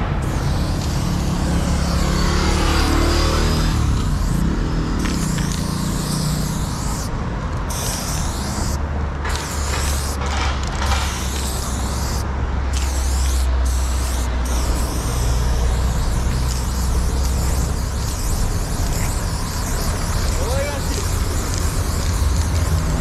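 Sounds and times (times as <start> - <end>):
spray paint can hissing: 0.0 - 23.0.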